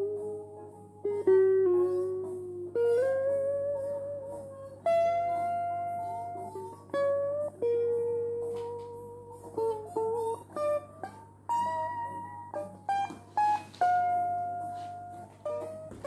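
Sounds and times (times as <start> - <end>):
electric guitar single-note line: 0.0 - 16.0.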